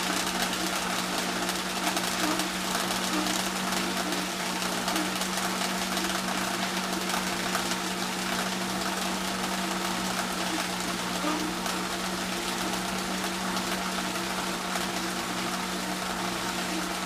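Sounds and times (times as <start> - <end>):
vacuum blower humming: 0.0 - 17.0.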